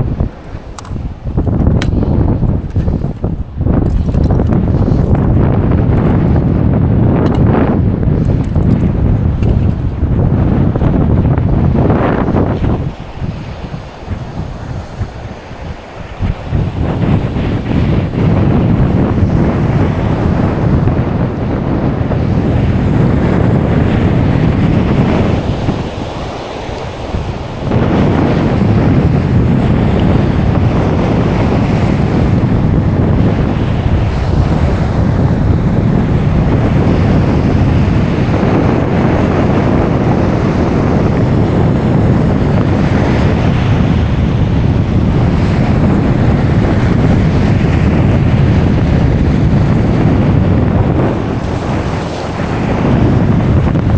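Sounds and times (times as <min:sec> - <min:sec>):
breaking surf: 0:00.0 - 0:53.9
wind buffeting microphone: 0:00.0 - 0:53.9.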